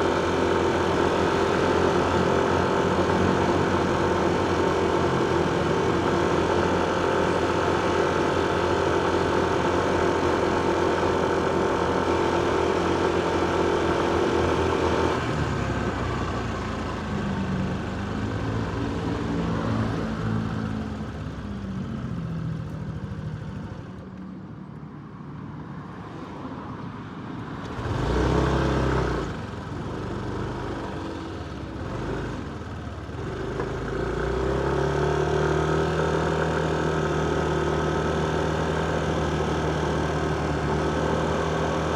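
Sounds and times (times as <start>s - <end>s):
motorcycle accelerating: 0.0s - 23.7s, 27.6s - 41.9s.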